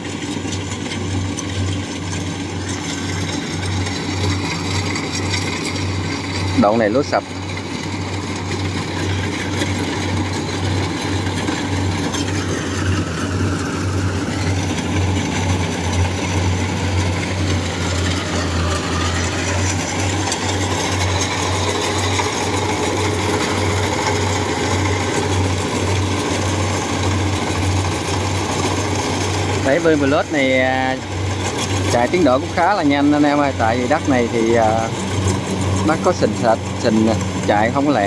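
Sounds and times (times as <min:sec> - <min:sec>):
combine harvester engine and machinery: 0:00.0 - 0:38.0.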